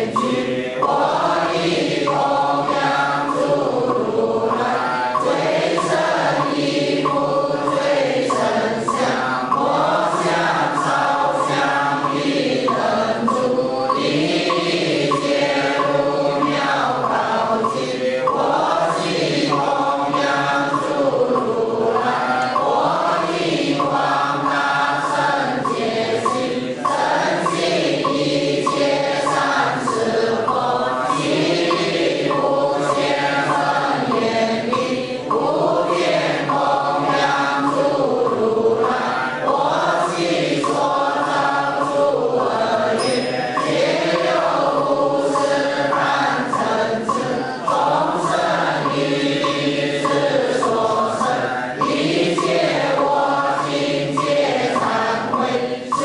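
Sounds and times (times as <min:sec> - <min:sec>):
group chanting in unison: 0:00.0 - 0:56.0.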